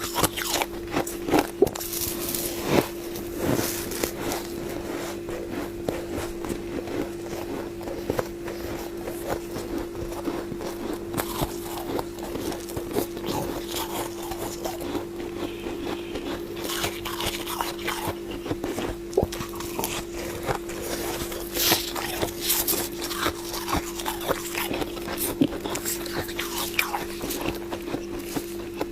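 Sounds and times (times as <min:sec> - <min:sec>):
frost crackling and crunching: 0:00.0 - 0:28.9
steady hum: 0:00.0 - 0:28.9.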